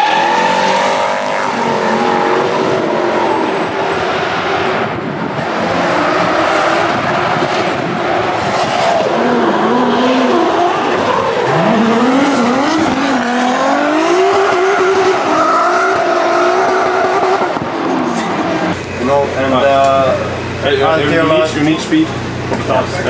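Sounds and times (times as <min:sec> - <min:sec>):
car engines revving: 0:00.0 - 0:23.0
tyres skidding and squealing: 0:00.0 - 0:23.0.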